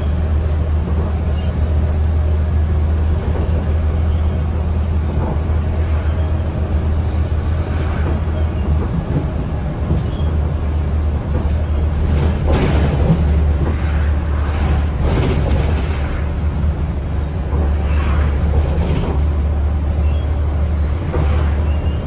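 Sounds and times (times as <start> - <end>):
bus engine droning: 0.0 - 22.0
road noise: 0.0 - 22.0.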